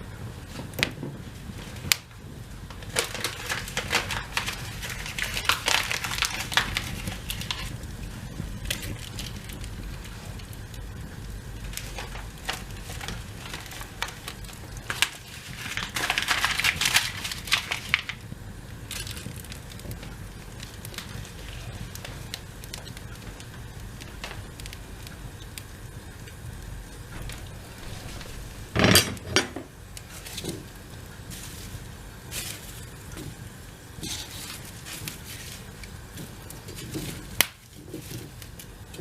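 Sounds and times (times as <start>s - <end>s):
paper kindling crackling in fireplace: 0.0s - 39.0s.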